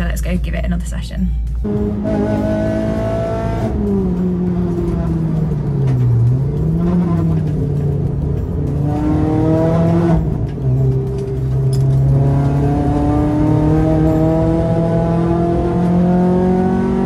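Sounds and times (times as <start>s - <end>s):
car engine revving hard: 1.7s - 8.0s, 8.6s - 11.0s, 11.6s - 17.0s.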